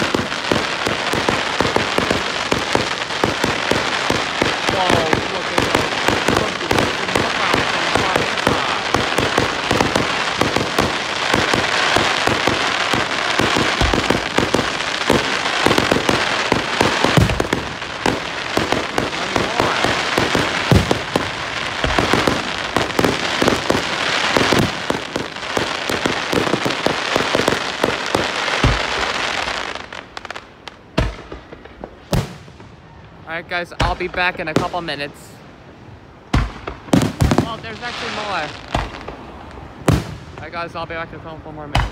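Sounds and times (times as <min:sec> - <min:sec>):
firework bangs: 0:00.0 - 0:35.4, 0:36.2 - 0:41.9
fireworks crackling and popping: 0:00.0 - 0:41.9.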